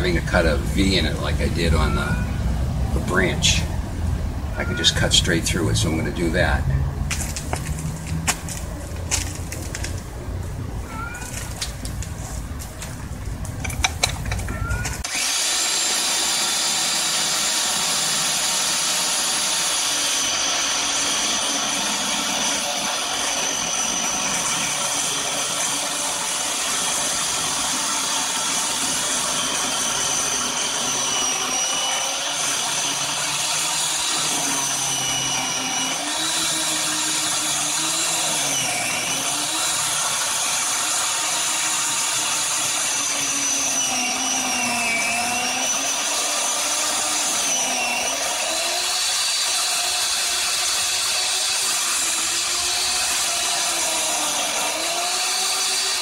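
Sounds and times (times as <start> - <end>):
electric chainsaw cutting wood: 4.7 - 10.1, 13.6 - 56.0.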